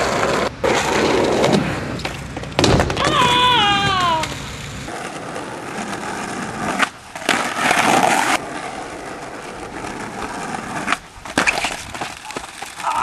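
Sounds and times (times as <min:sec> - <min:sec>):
skateboard rolling on concrete: 0:00.0 - 0:13.0.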